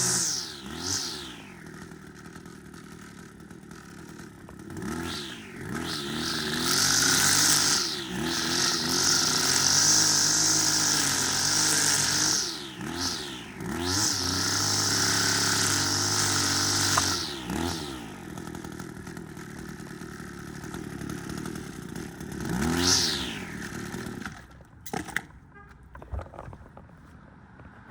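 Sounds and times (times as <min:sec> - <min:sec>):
string trimmer engine revving: 0:00.0 - 0:25.2.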